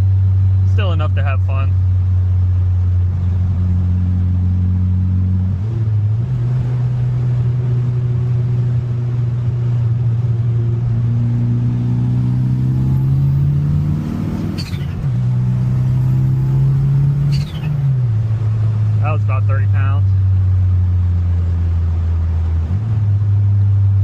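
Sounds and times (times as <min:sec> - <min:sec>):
turbocharged engine revving: 0:03.0 - 0:24.0.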